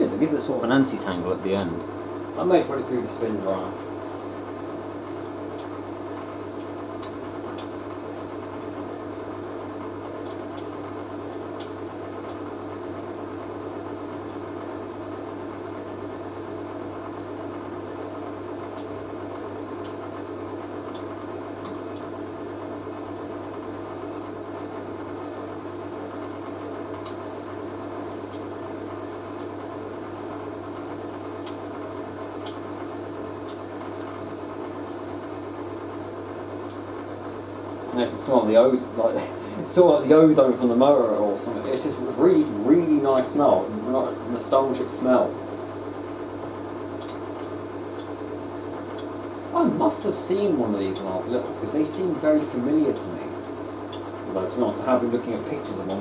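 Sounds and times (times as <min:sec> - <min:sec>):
washing machine motor humming: 0:00.0 - 0:56.0.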